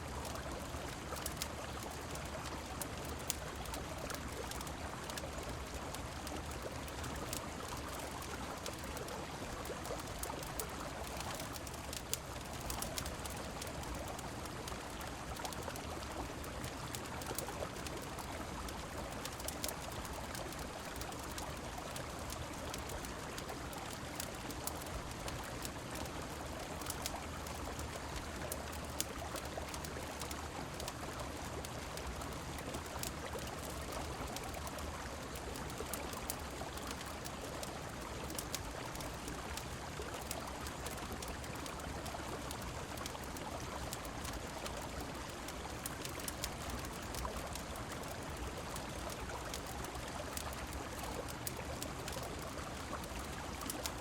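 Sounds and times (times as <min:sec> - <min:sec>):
rain falling: 0:00.0 - 0:54.0
wood fire crackling: 0:00.2 - 0:54.0.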